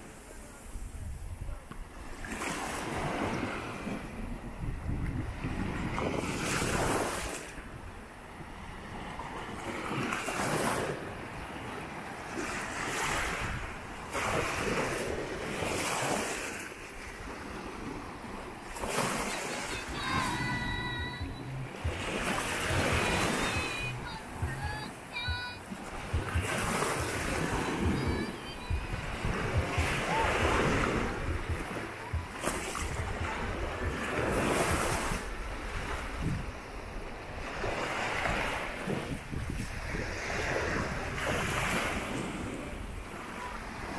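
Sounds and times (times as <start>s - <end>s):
small waves washing on shore: 0.0s - 43.9s
wind rumble on microphone: 0.0s - 43.9s.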